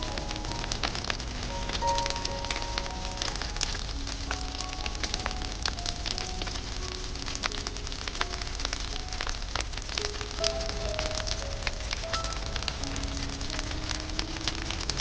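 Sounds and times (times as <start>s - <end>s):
fire pops and snaps: 0.0s - 15.0s
soft background music: 0.0s - 15.0s
wood fire crackling: 0.0s - 15.0s.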